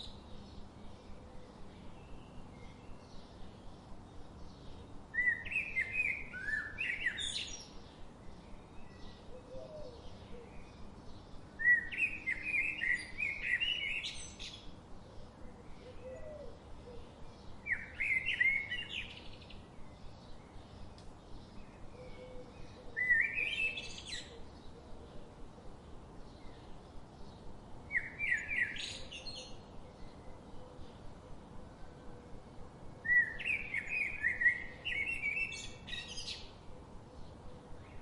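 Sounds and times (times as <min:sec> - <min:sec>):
faint bird chirping: 0:00.0 - 0:38.0.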